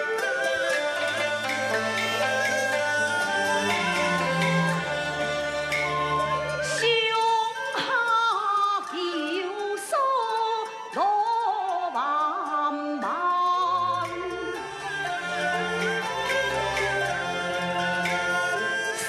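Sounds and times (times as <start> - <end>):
traditional instrumental accompaniment: 0.0 - 19.0.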